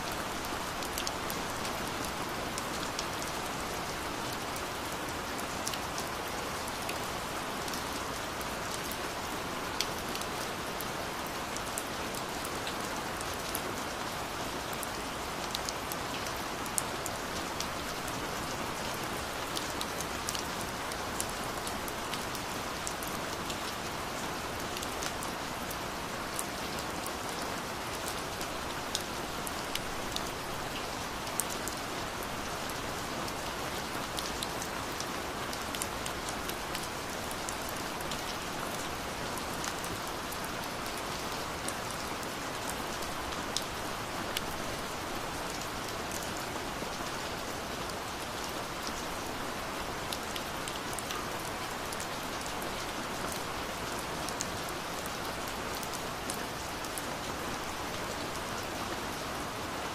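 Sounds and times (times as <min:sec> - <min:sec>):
gentle rain falling: 0:00.0 - 0:59.9.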